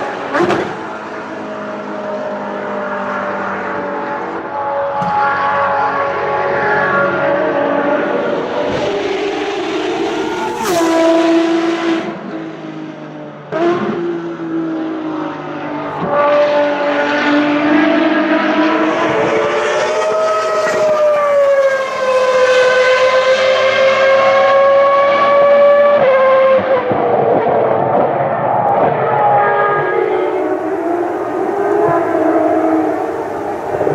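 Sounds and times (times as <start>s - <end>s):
racing car engines passing: 0.0s - 33.9s.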